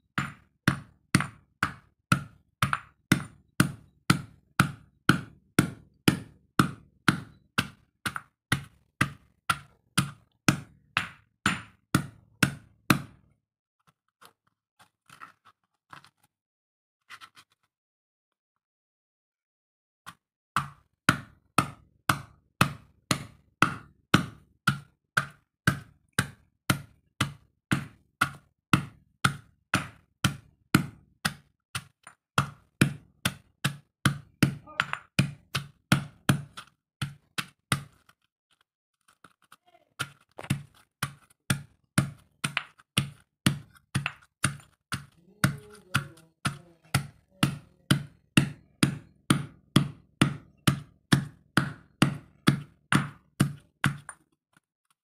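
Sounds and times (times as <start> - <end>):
stone pestle pounding in mortar: 0.0 - 13.3, 20.6 - 38.1, 39.3 - 54.3.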